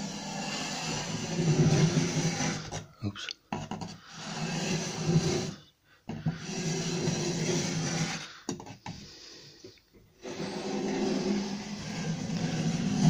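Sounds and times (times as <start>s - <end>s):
pencil rubbing on board: 0.0s - 2.9s, 3.6s - 8.5s, 10.2s - 13.0s
scriber scraping on plaster: 0.0s - 3.0s, 3.6s - 9.0s, 10.2s - 13.0s.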